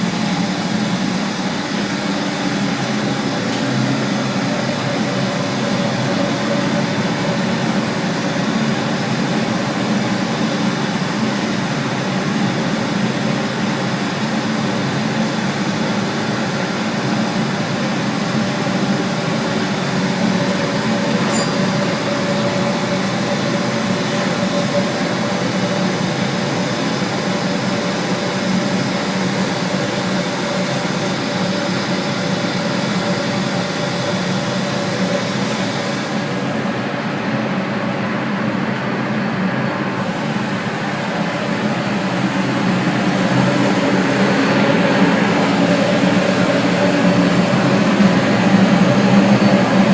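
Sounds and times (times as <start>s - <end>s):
steam boiler plant roaring: 0.0s - 49.9s.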